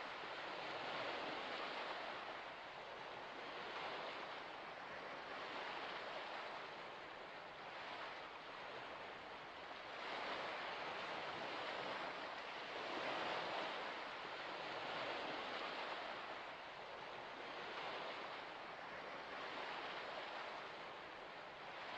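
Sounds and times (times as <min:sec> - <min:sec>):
small waves washing on shore: 0:00.0 - 0:21.9.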